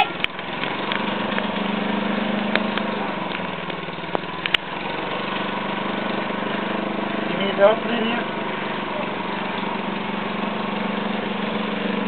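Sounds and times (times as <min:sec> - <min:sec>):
small engine droning: 0:00.0 - 0:12.0.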